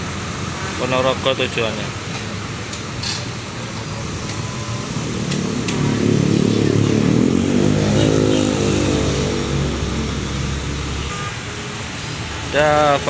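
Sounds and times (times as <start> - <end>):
bus engine passing by: 0.0 - 13.0.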